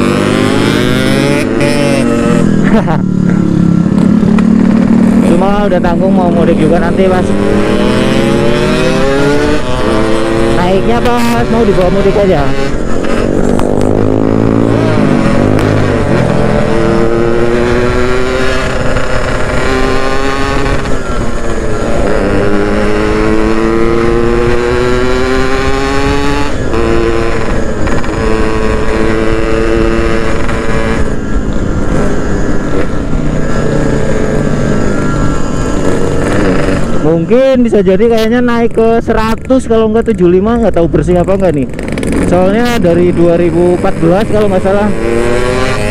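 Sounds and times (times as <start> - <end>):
two-stroke motorcycle engine accelerating: 0.0 - 45.9.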